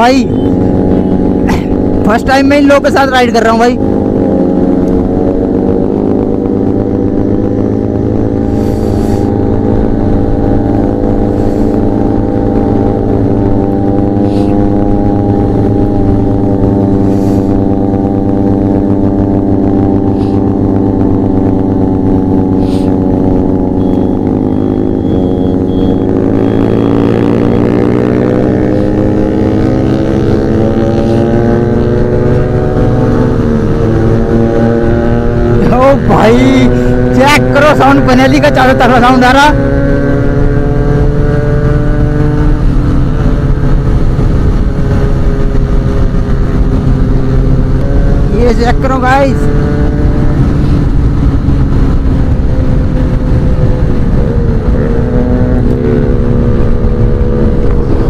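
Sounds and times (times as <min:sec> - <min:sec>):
motorcycle engines droning: 0:00.0 - 0:58.0.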